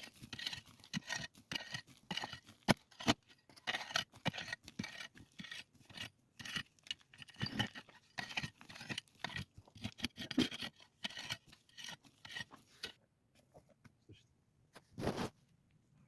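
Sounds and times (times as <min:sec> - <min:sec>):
rough scraping strokes: 0:00.0 - 0:13.0.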